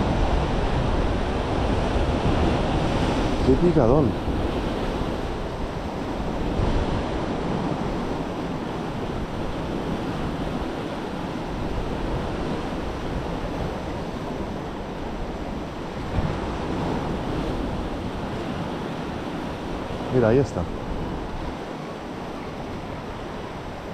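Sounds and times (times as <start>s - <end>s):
sea waves washing on shore: 0.0s - 23.9s
wind buffeting microphone: 0.0s - 23.9s.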